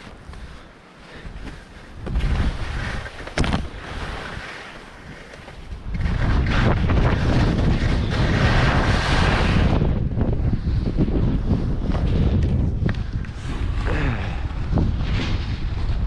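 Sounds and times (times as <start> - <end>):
wind buffeting microphone: 1.2 - 16.0.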